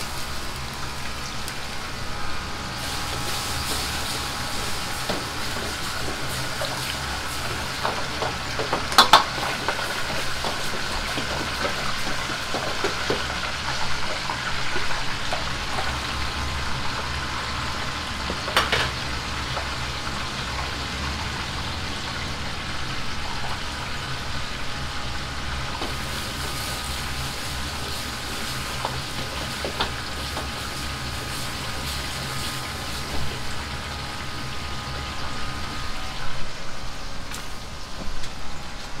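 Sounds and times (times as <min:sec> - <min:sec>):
food sizzling and bubbling in wok: 0:00.0 - 0:39.0
gas burner hum: 0:00.0 - 0:39.0.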